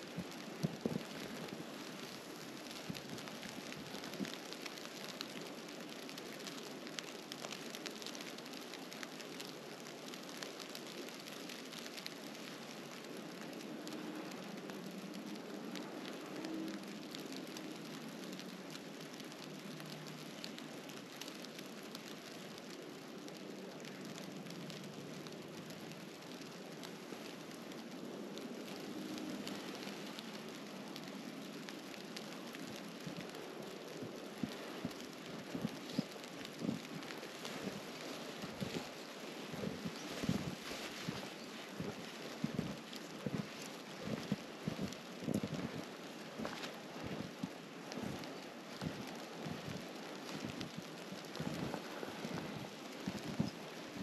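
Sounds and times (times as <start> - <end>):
patter of falling snow: 0.0 - 54.0
steady hiss: 0.0 - 54.0.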